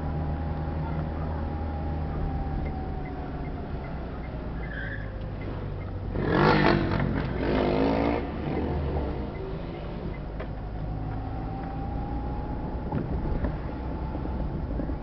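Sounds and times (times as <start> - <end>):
engine and road hum: 0.0 - 15.0.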